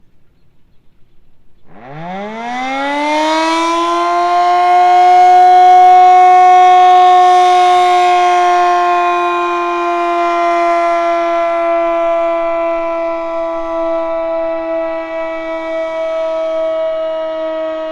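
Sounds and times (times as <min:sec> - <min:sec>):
warning siren wailing: 0:01.7 - 0:17.9.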